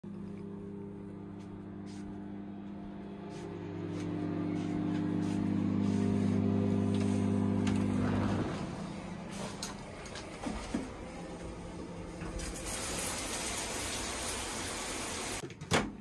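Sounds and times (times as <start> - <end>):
microwave oven humming: 0.0 - 15.4.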